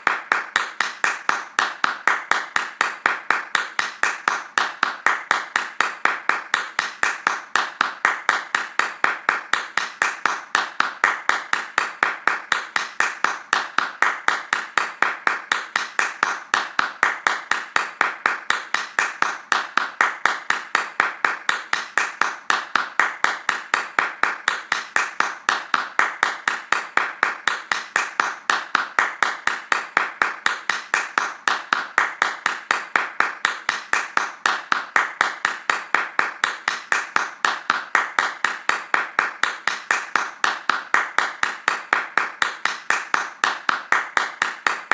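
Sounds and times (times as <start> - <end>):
hands clapping fast: 0.0 - 44.9.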